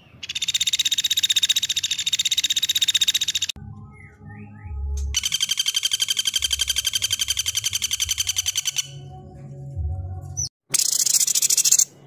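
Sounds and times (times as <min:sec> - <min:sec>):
songbird chirps and rattling trill: 0:00.0 - 0:09.2, 0:10.3 - 0:12.0.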